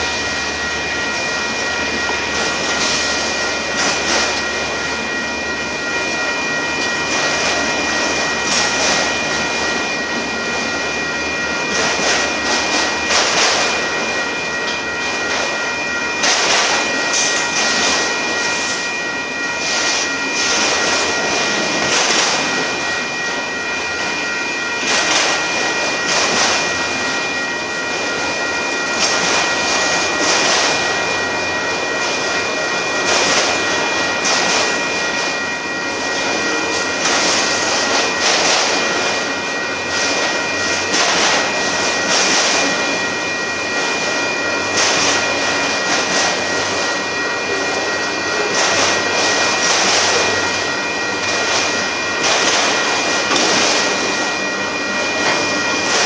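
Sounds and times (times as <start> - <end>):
crossing bell ringing: 0.0 - 56.0
train wheels rumbling on rails: 0.0 - 56.0.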